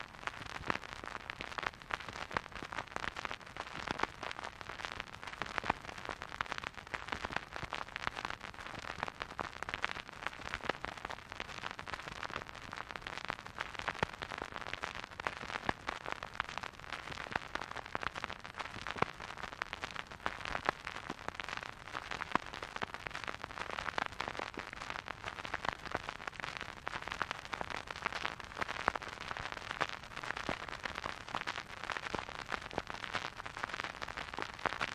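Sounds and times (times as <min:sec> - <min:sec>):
vinyl record hiss and crackle: 0:00.0 - 0:34.9.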